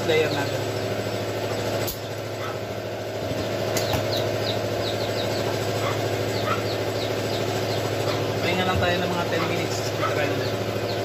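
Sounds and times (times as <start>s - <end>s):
motor humming: 0.0s - 11.0s
small birds chirping: 0.0s - 11.0s.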